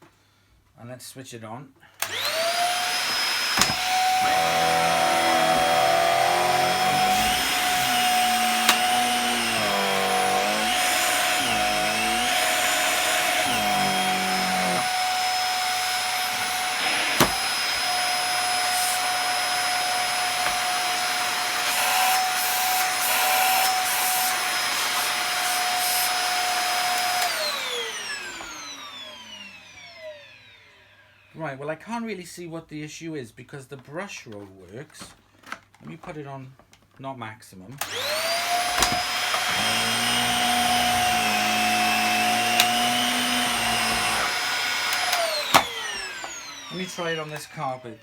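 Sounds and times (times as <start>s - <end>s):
vacuum cleaner running: 2.0s - 31.3s, 37.8s - 48.0s.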